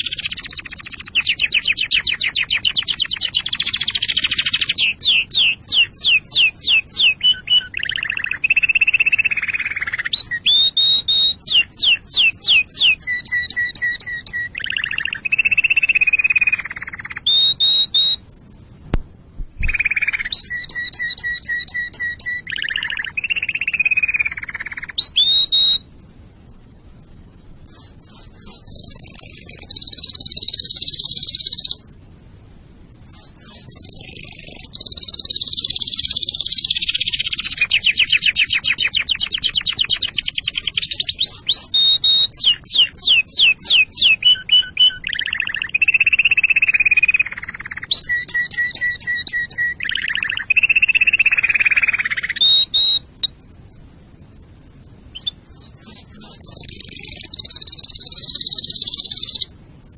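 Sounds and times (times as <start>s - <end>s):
canary singing trills: 0.0s - 18.8s, 19.6s - 32.0s, 32.6s - 59.9s.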